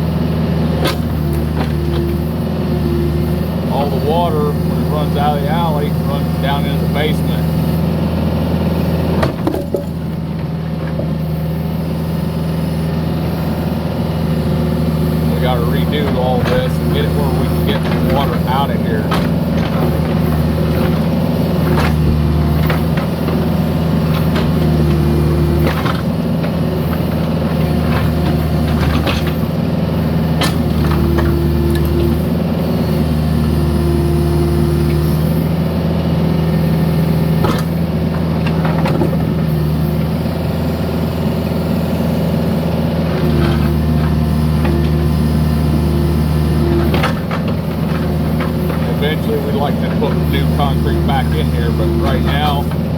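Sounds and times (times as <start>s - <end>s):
excavator engine running: 0.0s - 52.9s
hydraulics whining: 0.0s - 52.9s.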